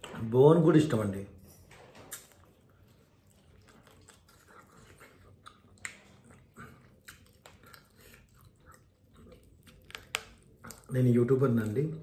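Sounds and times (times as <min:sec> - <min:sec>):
person chewing crispy food: 0:02.1 - 0:12.0.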